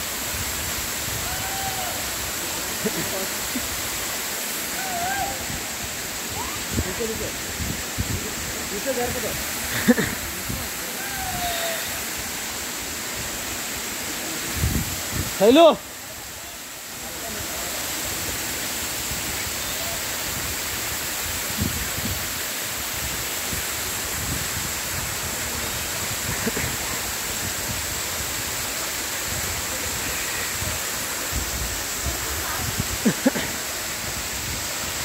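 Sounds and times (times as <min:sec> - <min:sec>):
waterfall rushing into pool: 0:00.0 - 0:35.0.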